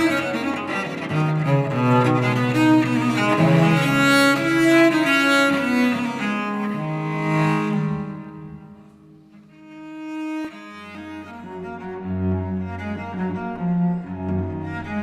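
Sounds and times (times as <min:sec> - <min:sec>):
bowed cello notes: 0:00.0 - 0:15.0.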